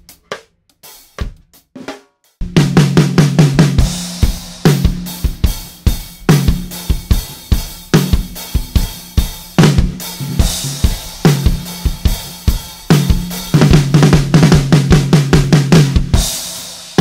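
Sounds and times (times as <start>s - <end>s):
snare drum backbeat: 0.0s - 16.5s
bass drum: 1.0s - 1.6s, 2.4s - 16.6s.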